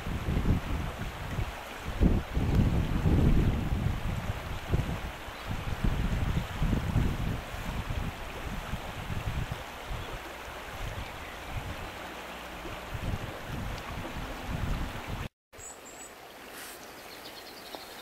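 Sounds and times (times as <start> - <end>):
wind buffeting microphone: 0.0 - 15.3
shallow river running: 0.0 - 18.0.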